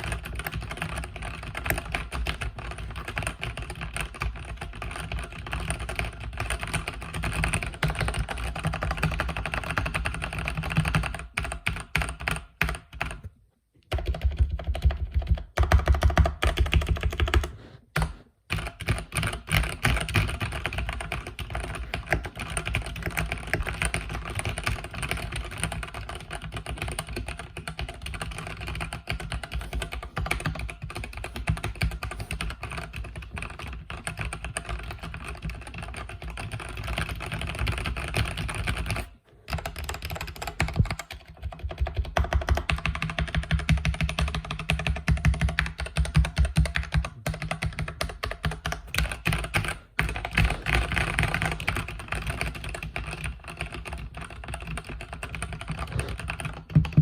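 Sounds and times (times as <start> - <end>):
fast typing on mechanical keyboard: 0.0 - 13.2, 13.9 - 57.0.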